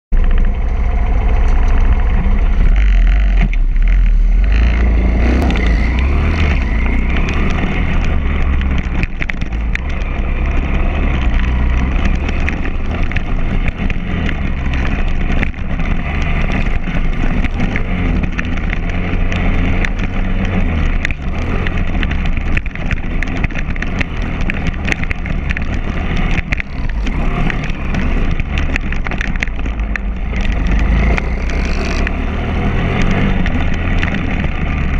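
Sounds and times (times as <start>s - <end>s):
small motorbike engine revving: 1.1s - 34.9s.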